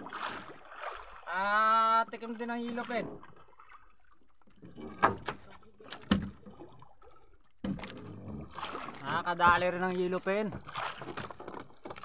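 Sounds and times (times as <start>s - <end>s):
water lapping around a boat: 0.0s - 12.0s.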